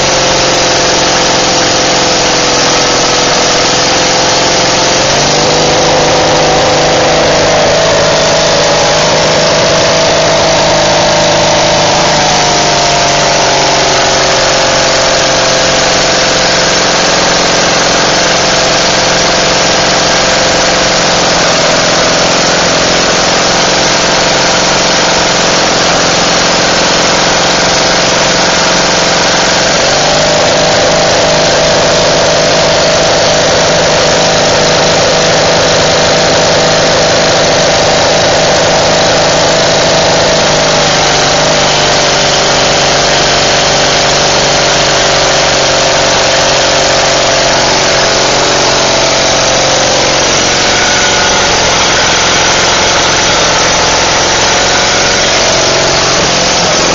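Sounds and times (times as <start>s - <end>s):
engine running steadily: 0.0s - 56.9s.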